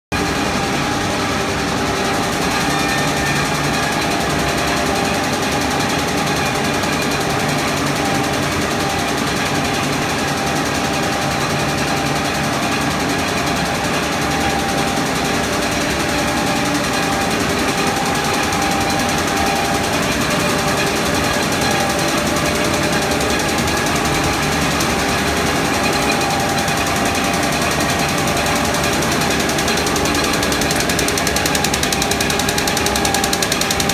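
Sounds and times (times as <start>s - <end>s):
sewing machine clattering: 2.2s - 33.9s.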